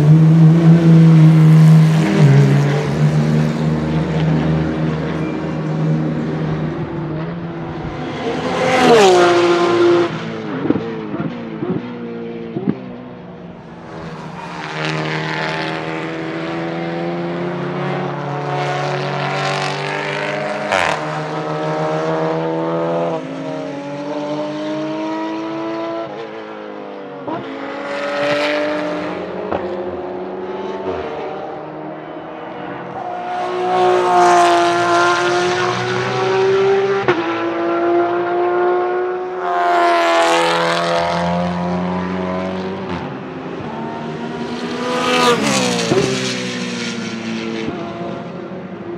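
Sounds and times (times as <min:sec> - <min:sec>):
race car engines at full throttle: 0:00.0 - 0:48.9.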